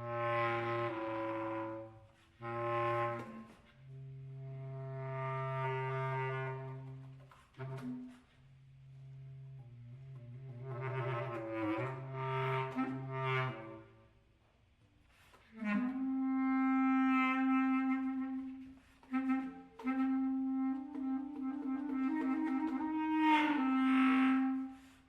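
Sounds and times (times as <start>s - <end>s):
solo clarinet: 0.0s - 25.0s.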